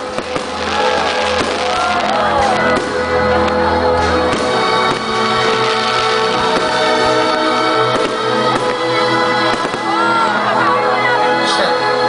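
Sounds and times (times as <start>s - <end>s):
loud music with held chords: 0.0s - 12.0s.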